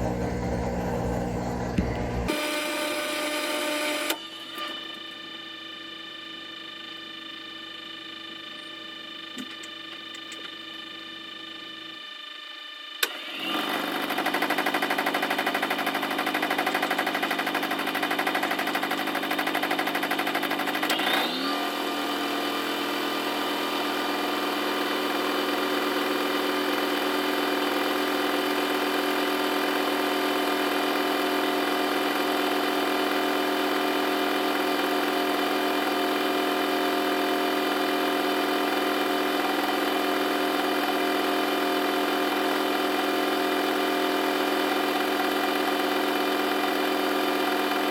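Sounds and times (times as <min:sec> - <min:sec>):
washing machine motor whining: 0:00.0 - 0:47.9.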